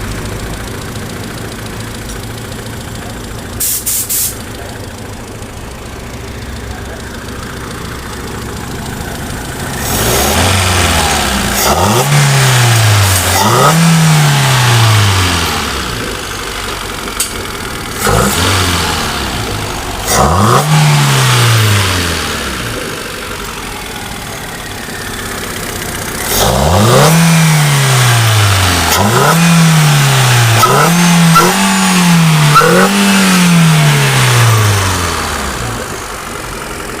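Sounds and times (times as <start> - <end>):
car engine revving in blips: 0.0 - 37.0.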